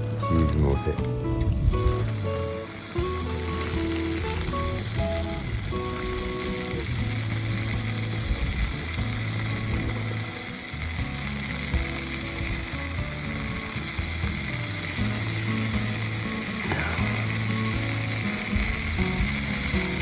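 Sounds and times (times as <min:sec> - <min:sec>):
background music low notes: 0:00.0 - 0:20.0
bacon sizzling: 0:00.0 - 0:20.0
fire crackling: 0:00.0 - 0:20.0.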